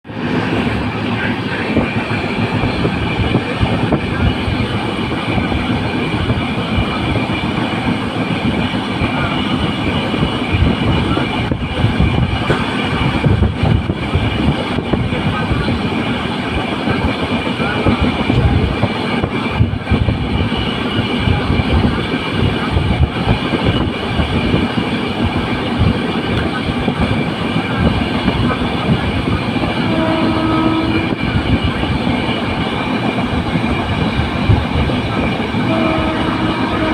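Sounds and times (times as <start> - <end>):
vehicle ride rumble: 0.0 - 36.9.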